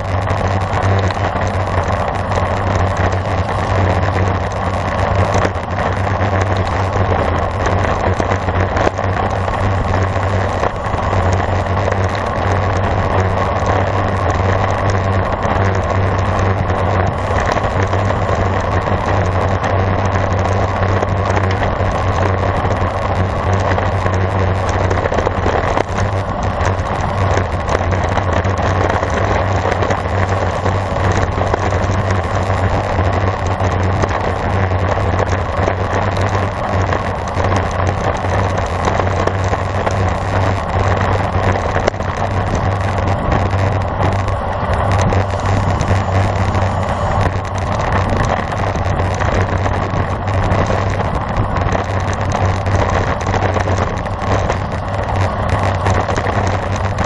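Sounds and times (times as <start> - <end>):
bicycle road noise: 0.0 - 57.0.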